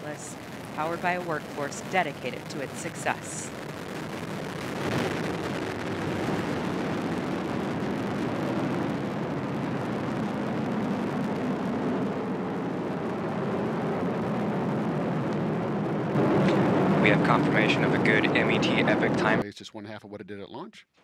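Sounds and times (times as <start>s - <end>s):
rocket engines roaring: 0.0s - 20.0s.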